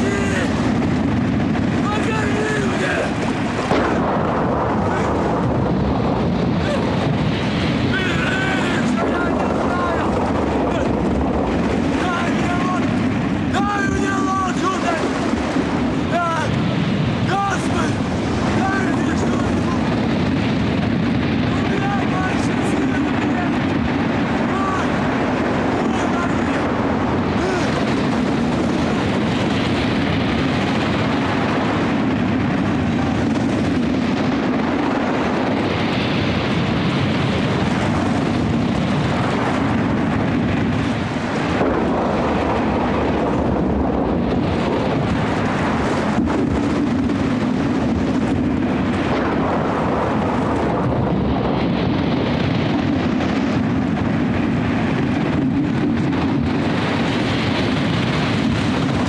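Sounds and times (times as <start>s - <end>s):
storm wind: 0.0s - 59.0s.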